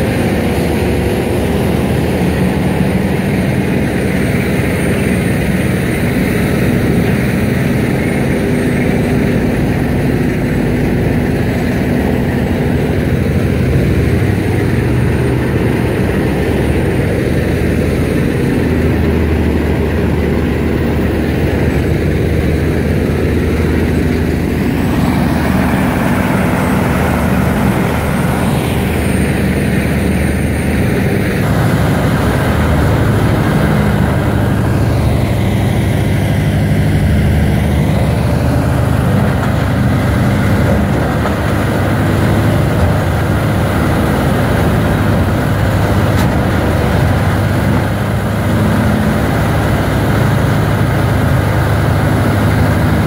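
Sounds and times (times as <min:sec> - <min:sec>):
diesel engine humming: 0:00.0 - 0:53.0
wood grinder running: 0:00.0 - 0:53.0.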